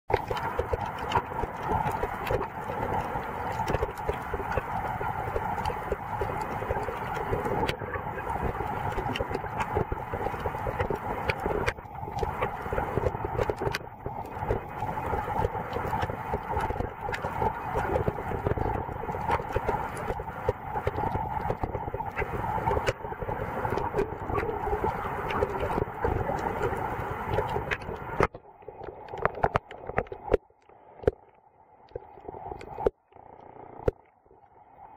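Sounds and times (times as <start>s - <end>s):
underwater hiss with clicks and crackles: 0.1s - 34.9s.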